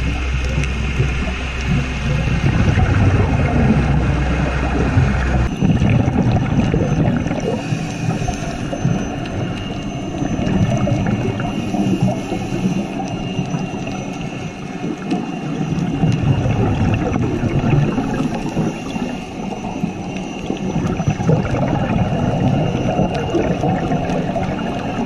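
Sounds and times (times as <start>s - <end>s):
faint high whine: 0.0s - 25.0s
muffled underwater rumble and gurgle: 0.0s - 25.0s.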